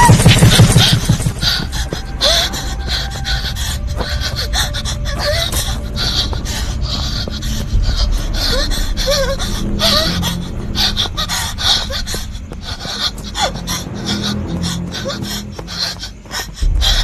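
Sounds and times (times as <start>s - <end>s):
person breathing heavily: 0.0s - 17.0s.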